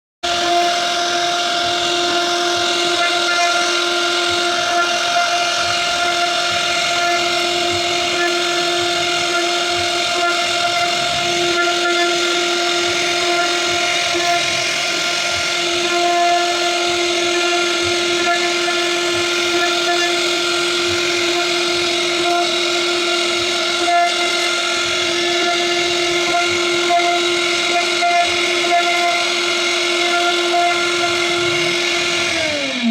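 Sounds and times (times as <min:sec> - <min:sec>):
router spindle whining: 0:00.2 - 0:32.9.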